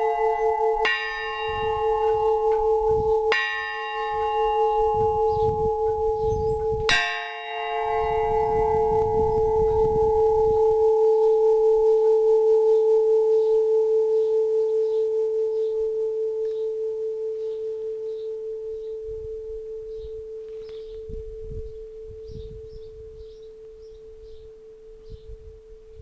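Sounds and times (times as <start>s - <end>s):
church bell ringing: 0.0s - 25.6s.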